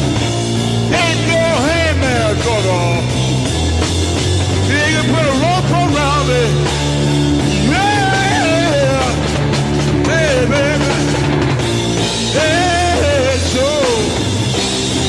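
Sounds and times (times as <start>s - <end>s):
steady bass line: 0.0s - 15.0s.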